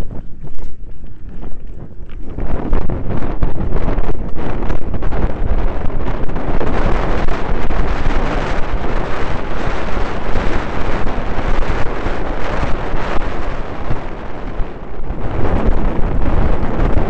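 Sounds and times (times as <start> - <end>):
bike tyres on gravel: 0.0 - 17.0
wind buffeting microphone: 0.0 - 17.0.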